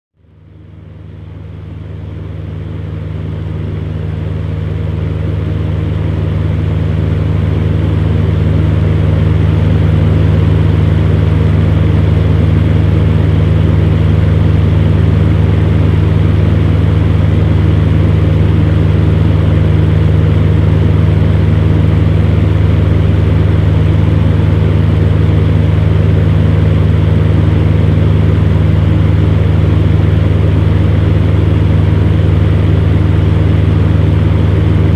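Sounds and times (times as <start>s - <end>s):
fan heater running: 0.2s - 34.9s.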